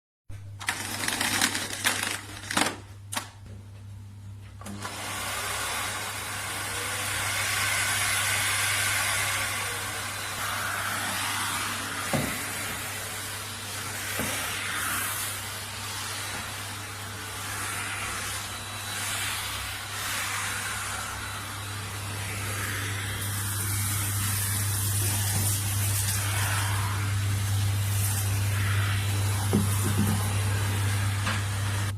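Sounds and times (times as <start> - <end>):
vacuum cleaner motor running: 0.6 - 2.7, 4.6 - 31.9.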